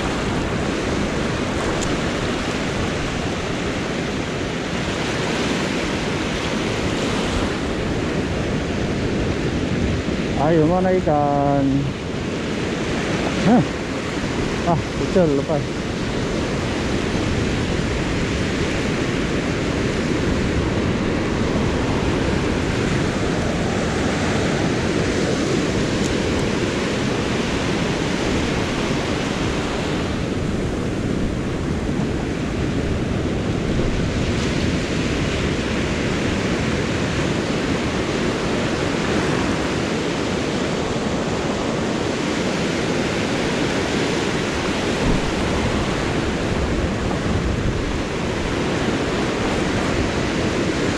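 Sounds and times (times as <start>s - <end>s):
surf breaking on beach: 0.0s - 50.9s.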